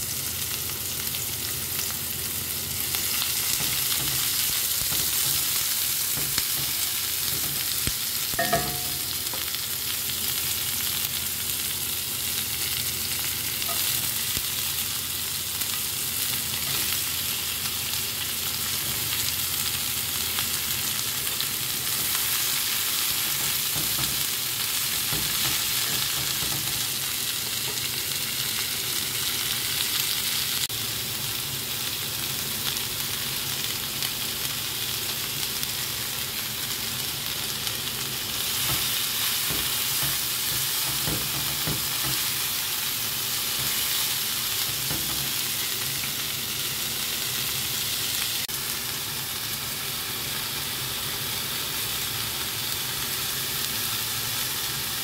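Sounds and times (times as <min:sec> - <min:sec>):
onions and peppers sizzling in skillet: 0:00.0 - 0:55.0.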